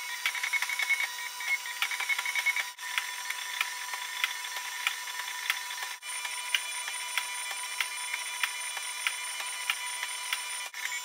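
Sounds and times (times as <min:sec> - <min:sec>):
printer stepper motors whining: 0:00.0 - 0:11.0.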